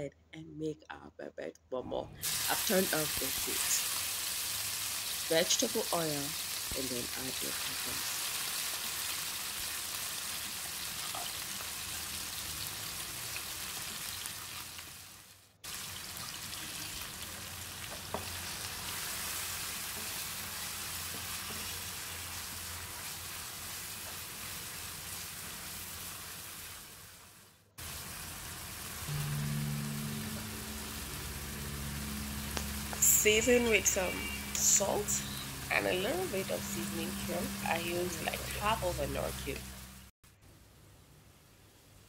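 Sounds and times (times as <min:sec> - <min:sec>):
vegetables sizzling in oil: 0:02.2 - 0:40.1.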